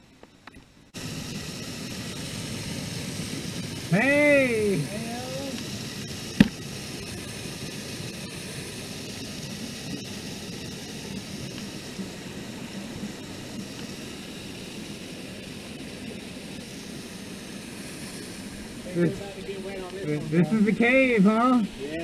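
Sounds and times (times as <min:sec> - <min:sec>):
small waterfall rushing: 0:01.0 - 0:22.0.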